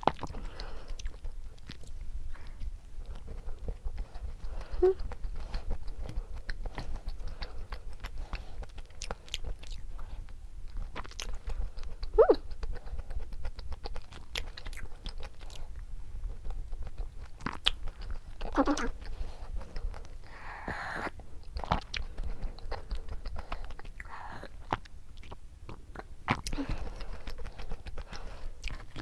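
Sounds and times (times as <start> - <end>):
person chewing a crumbly cookie: 0.0 - 29.0.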